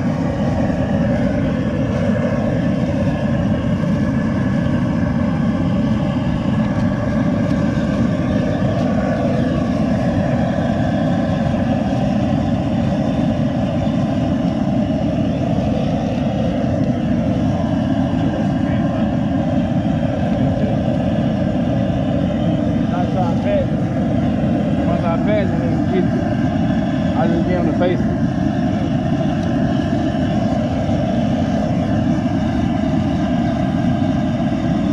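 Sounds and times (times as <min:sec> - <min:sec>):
propane burner roaring: 0:00.0 - 0:34.9.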